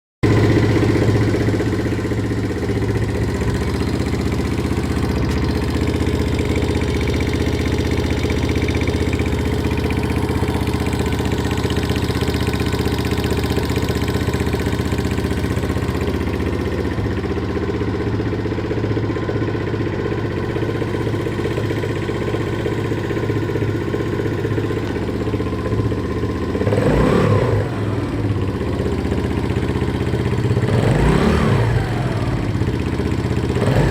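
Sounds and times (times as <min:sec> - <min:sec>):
motorcycle engine idling: 0:00.2 - 0:33.9
motorcycle engine revving: 0:00.2 - 0:33.9.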